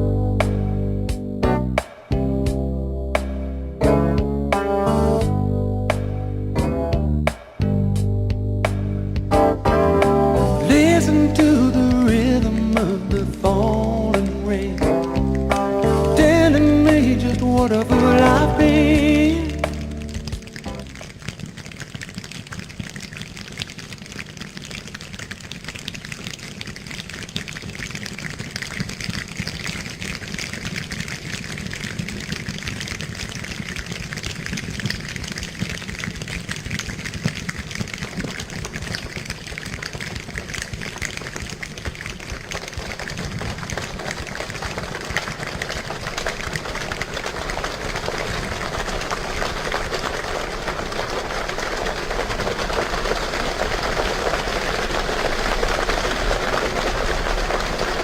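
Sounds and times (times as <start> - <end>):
clappers rattling like rain: 8.8 - 58.0.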